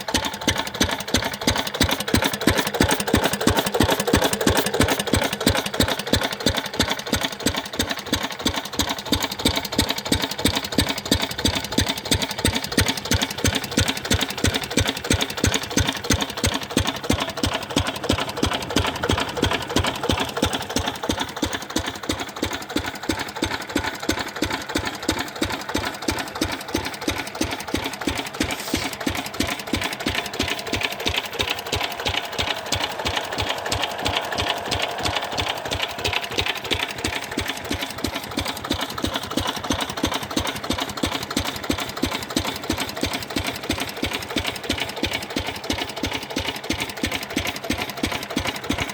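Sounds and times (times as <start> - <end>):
diesel engine knocking: 0.0 - 48.9.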